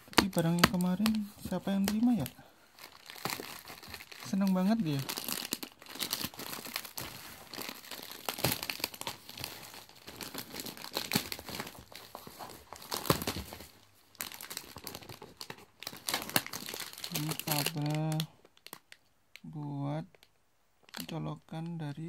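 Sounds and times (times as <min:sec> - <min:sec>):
plastic film crinkling: 0:00.0 - 0:19.5.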